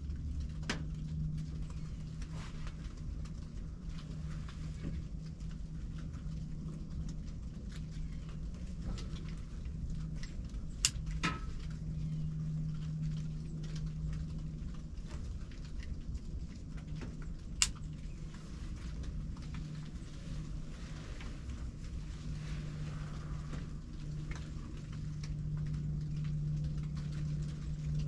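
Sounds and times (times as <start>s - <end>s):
low steady hum and rumble: 0.0s - 28.0s.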